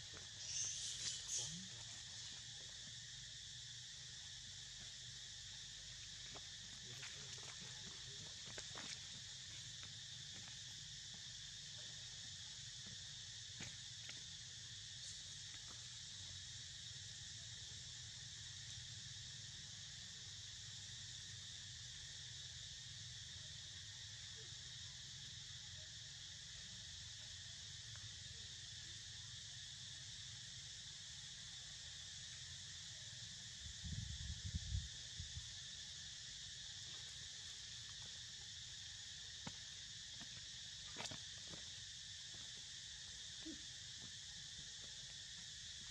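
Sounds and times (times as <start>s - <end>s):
insect chorus droning: 0.0s - 45.9s.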